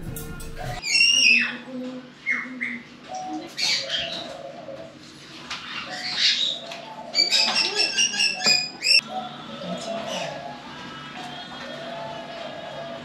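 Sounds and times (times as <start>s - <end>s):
birds chirping and squawking: 0.2s - 13.0s.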